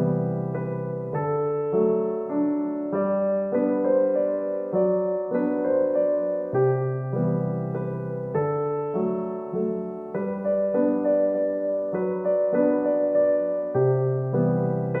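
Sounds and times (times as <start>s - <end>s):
gentle slow piano piece: 0.0s - 15.0s.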